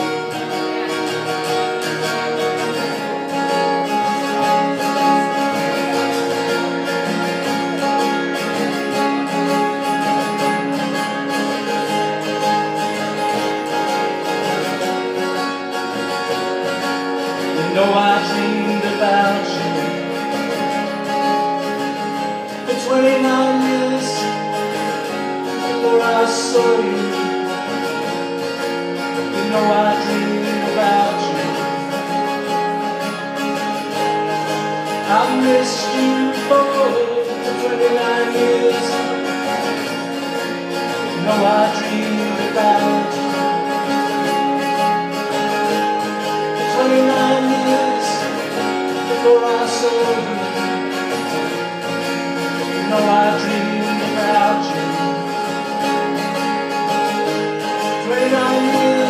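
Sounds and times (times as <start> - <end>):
man singing: 0.0 - 33.0, 33.9 - 59.0
acoustic guitars playing: 0.0 - 59.0.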